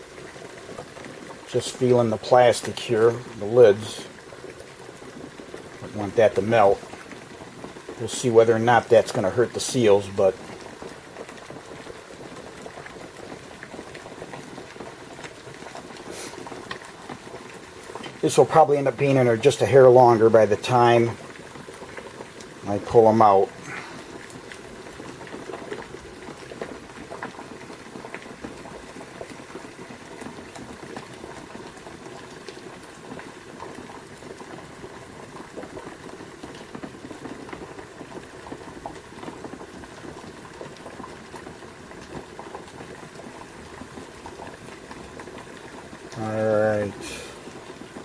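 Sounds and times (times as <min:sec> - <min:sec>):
water boiling with bubbling pops: 0:00.0 - 0:48.0.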